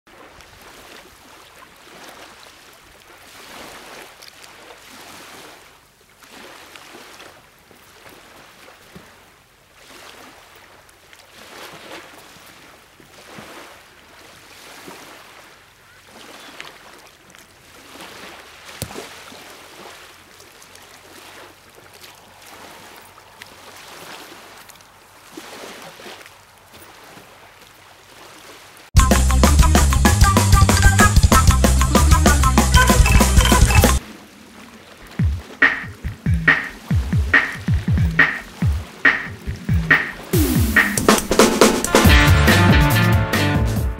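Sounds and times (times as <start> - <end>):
small waves washing onto sand: 0.1 - 29.0, 34.0 - 41.9.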